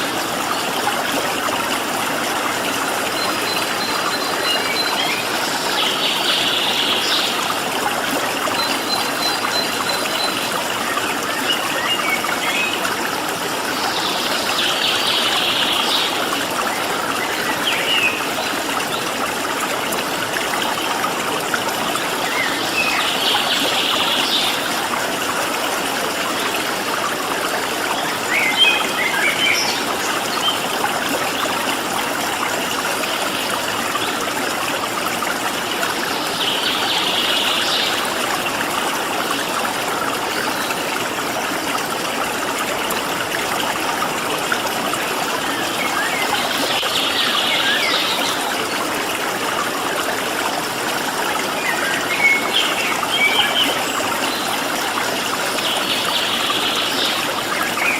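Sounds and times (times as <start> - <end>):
stream water flowing: 0.0 - 57.9.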